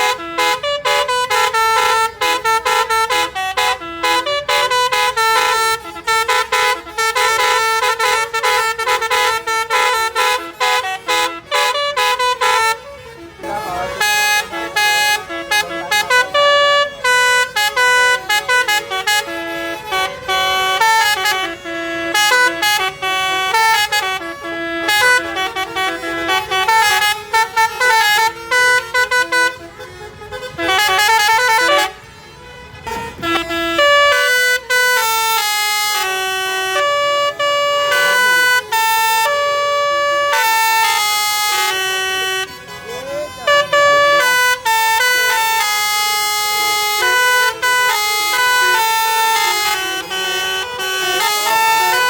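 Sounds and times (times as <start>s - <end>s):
bus horn playing melody: 0.0s - 52.0s.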